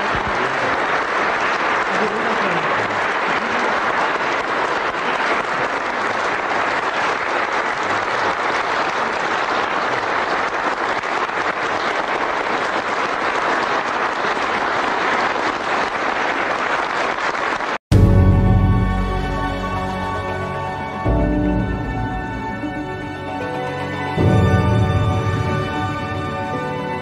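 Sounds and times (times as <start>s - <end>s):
crowd applauding: 0.0s - 27.0s.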